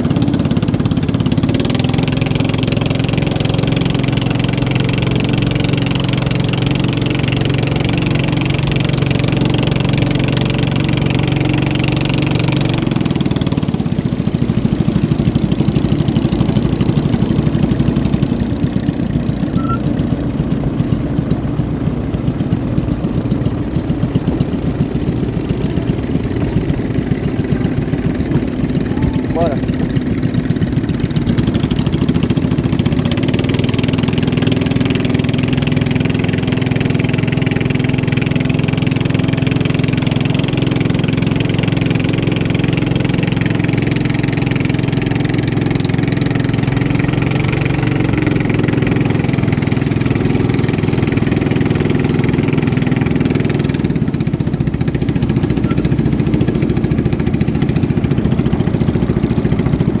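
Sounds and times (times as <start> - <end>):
motorboat engine running: 0.0 - 60.0.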